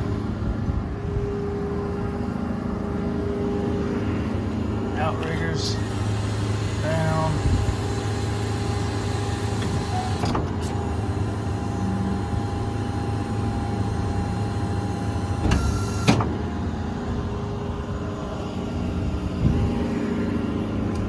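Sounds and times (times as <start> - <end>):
diesel engine idling: 0.0 - 21.0
hydraulic pump whine: 0.0 - 21.0.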